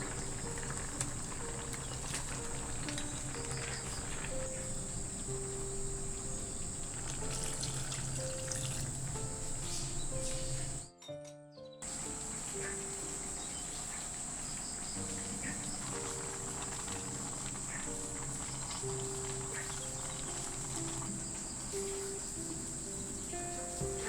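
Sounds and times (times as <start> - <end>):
high-pitched insect drone: 0.0 - 10.9, 11.8 - 24.0
slow music of held notes: 0.0 - 24.0.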